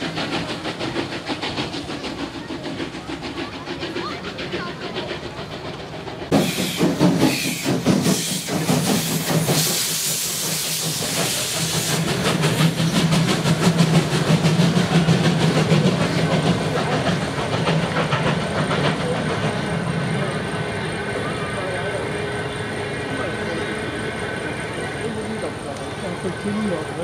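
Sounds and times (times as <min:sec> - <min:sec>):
steam hissing: 0:00.0 - 0:27.0
steam locomotive chuffing: 0:00.0 - 0:27.0.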